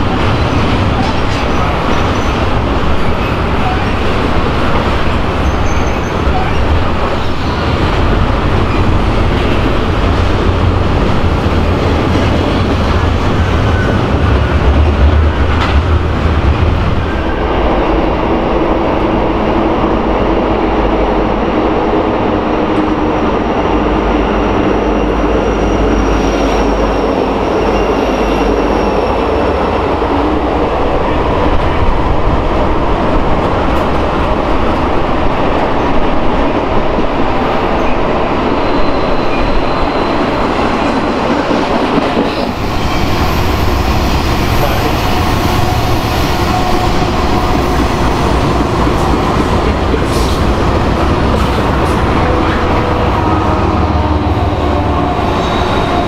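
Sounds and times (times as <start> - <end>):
diesel locomotives running: 0.0 - 56.0
passenger train rumble: 0.0 - 56.0.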